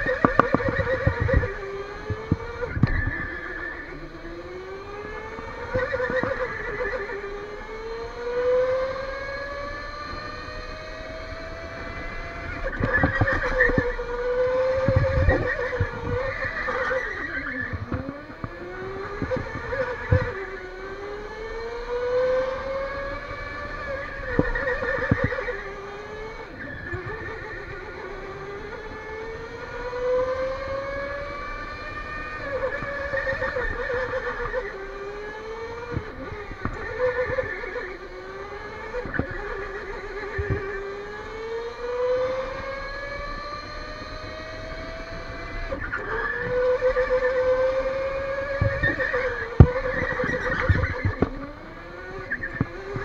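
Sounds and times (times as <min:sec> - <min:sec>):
electric motor whining: 0:00.0 - 0:53.0.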